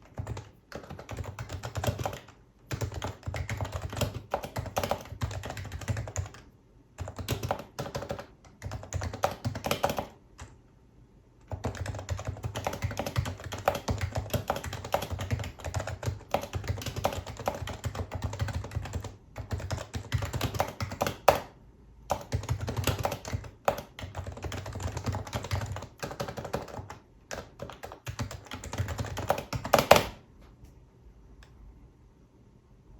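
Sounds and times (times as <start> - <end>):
soft keyboard typing: 0.0 - 10.6, 11.4 - 30.2.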